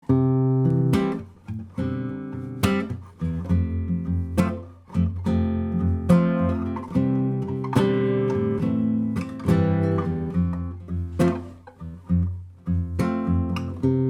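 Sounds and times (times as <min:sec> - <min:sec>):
guitar chords strummed: 0:00.0 - 0:14.0.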